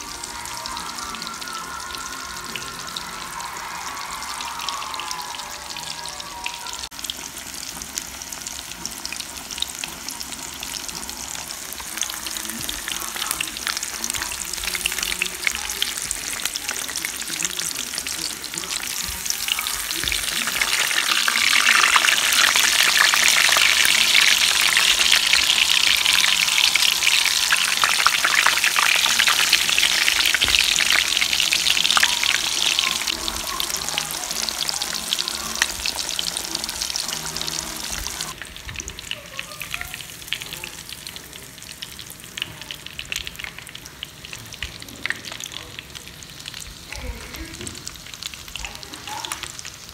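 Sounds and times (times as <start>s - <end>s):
deep-frying sizzle: 0.0s - 49.9s.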